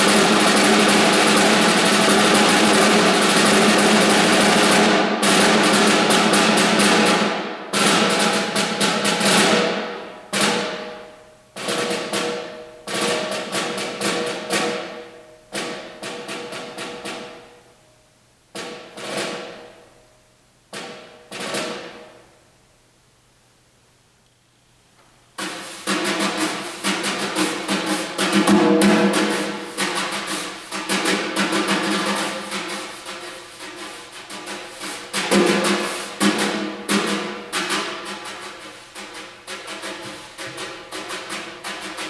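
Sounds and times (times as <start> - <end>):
snare drum rolls and strokes: 0.0 - 17.8, 18.5 - 20.0, 20.7 - 22.4, 25.0 - 42.0.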